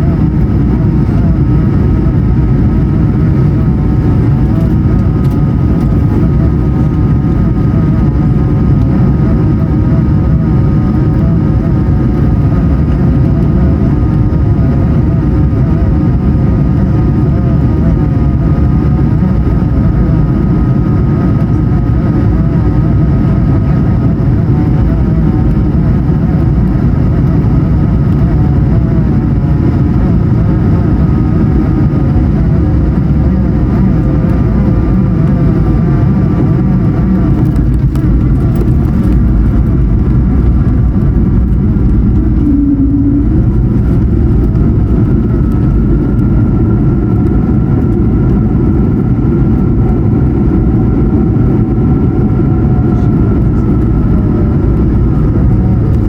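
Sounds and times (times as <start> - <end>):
airplane cabin engine rush: 0.0 - 56.0
whining fan tone: 0.0 - 56.0.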